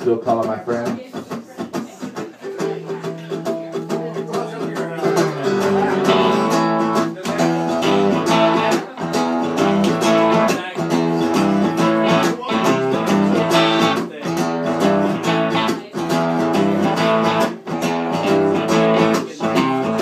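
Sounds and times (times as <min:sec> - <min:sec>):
acoustic guitar strumming: 0:00.0 - 0:20.0
electric guitar: 0:00.8 - 0:20.0.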